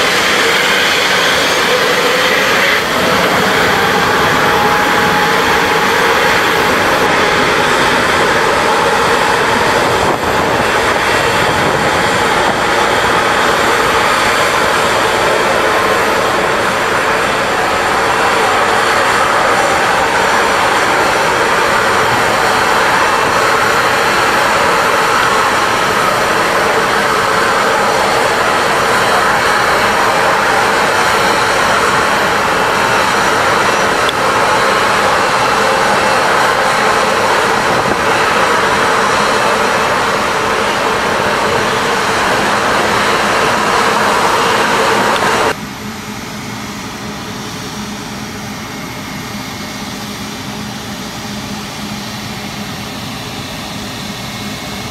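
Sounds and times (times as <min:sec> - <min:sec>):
jet engines roaring: 0:00.0 - 0:54.9
steady hum: 0:00.0 - 0:54.9.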